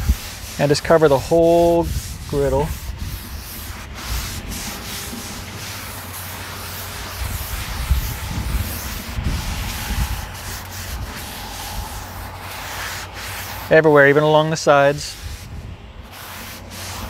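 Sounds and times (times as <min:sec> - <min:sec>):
paper towels scrubbing steel griddle: 0:00.0 - 0:17.0.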